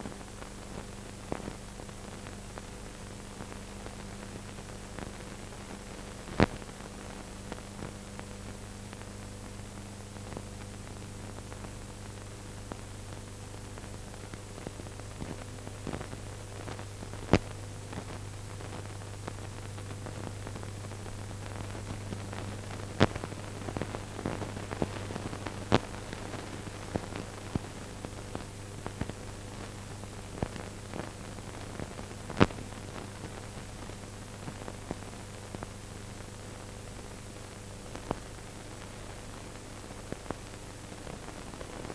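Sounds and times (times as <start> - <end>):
film soundtrack hiss and hum: 0.0 - 41.9
small crackles: 0.0 - 41.9.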